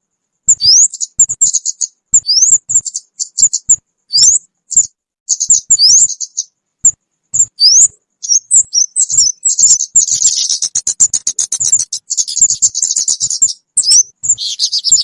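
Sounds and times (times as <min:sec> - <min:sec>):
bird chirping and whistling: 0:00.5 - 0:15.0.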